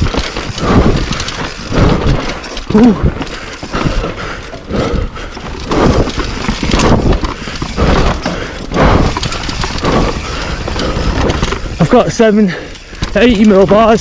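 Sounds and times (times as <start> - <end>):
bike thumps and rattles: 0.0 - 14.0
bike tyres on dirt: 0.0 - 14.0.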